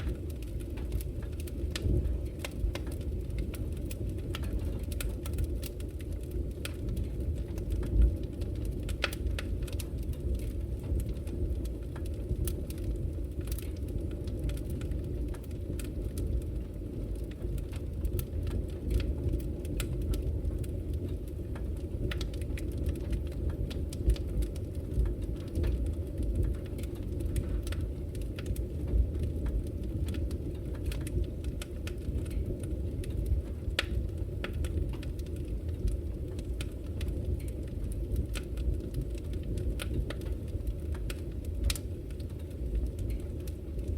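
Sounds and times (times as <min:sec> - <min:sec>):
fire crackling and popping: 0:00.0 - 0:43.9
fire low rumble: 0:00.0 - 0:43.9.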